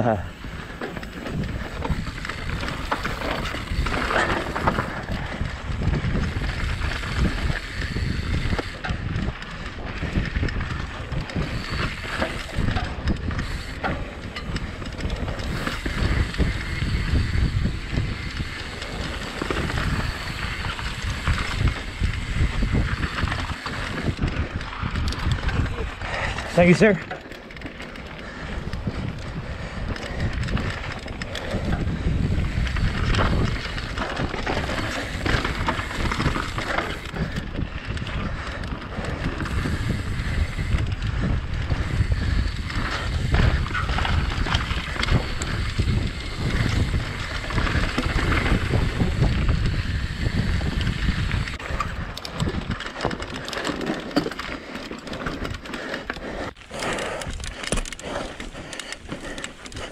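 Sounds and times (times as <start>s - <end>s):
wind on microphone: 0.0s - 26.9s, 27.6s - 54.3s
bike rattles and clicks: 0.0s - 59.9s
bike tyres rolling over dirt: 0.0s - 59.9s.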